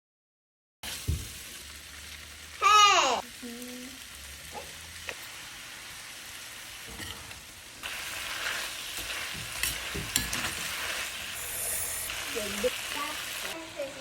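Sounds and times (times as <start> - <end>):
chicken sizzling in a hot pan: 0.8 - 14.0.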